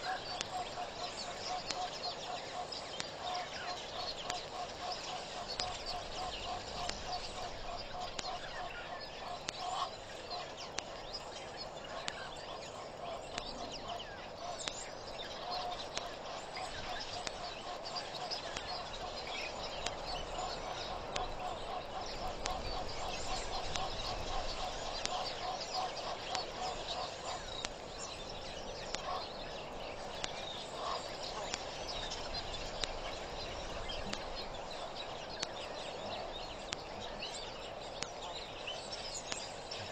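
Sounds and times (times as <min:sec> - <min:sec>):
birds calling rapidly repeated notes: 0:00.0 - 0:39.9
outdoor background noise: 0:00.0 - 0:39.9.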